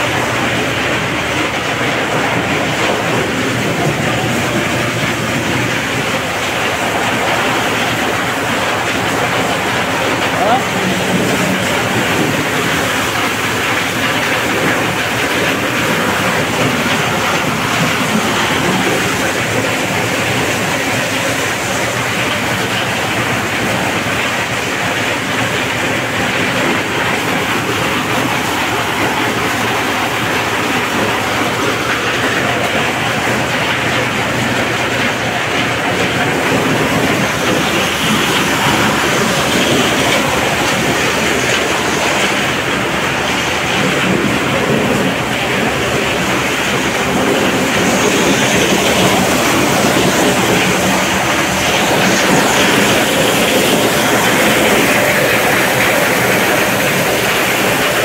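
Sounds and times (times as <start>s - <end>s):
corn sheller running: 0.0s - 58.0s.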